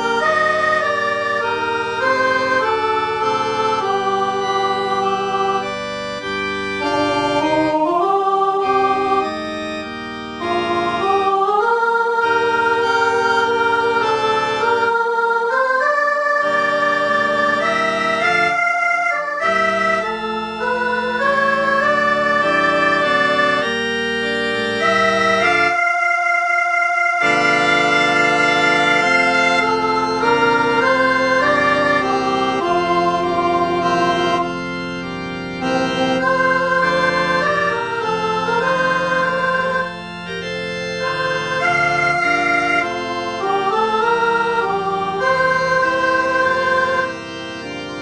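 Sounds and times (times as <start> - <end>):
synthetic organ chords: 0.0 - 48.0.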